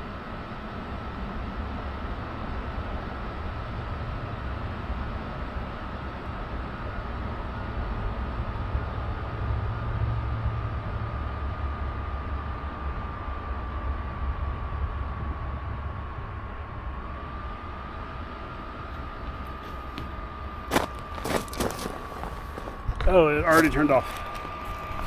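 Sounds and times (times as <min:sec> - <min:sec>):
heater blower fan whining: 0:00.0 - 0:25.0.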